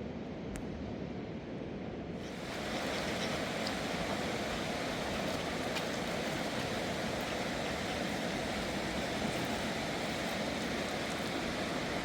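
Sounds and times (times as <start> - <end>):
river rushing: 2.3 - 12.0.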